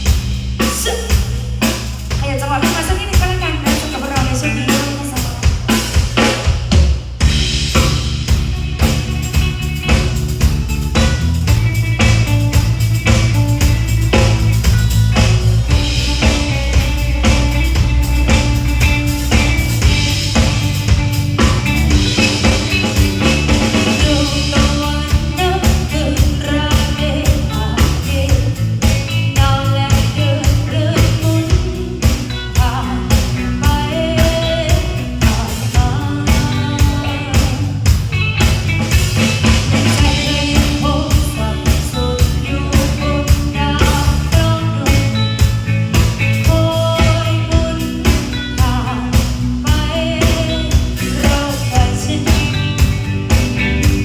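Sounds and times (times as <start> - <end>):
bass: 0.0 - 54.0
drum kit beat: 0.0 - 54.0.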